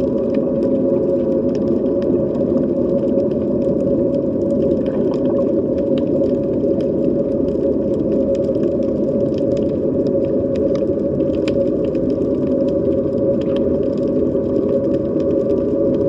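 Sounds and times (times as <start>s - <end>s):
low underwater rumble: 0.0s - 16.0s
underwater droning hum: 0.0s - 16.0s.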